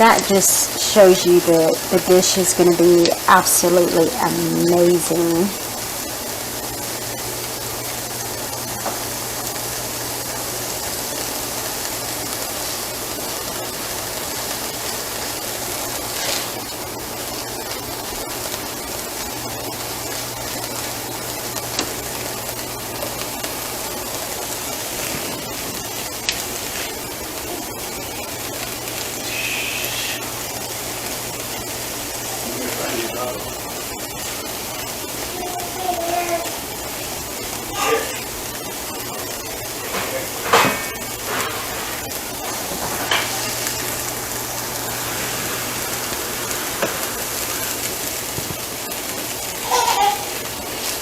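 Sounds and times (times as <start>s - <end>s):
onions sizzling in a frying pan: 0.0s - 51.0s.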